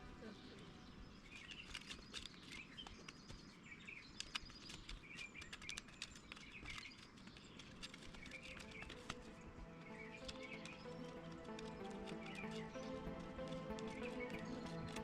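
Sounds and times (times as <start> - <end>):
small birds chirping: 0.0 - 15.0
light ticks and clicks: 1.0 - 15.0.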